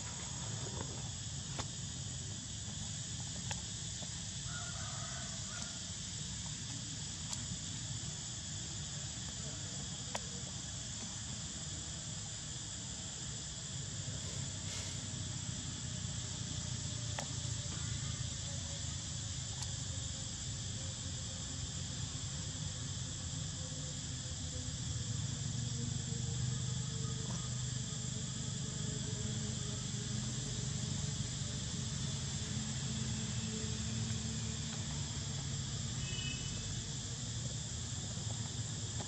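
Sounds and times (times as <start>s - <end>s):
insect chorus drone: 0.0s - 39.0s.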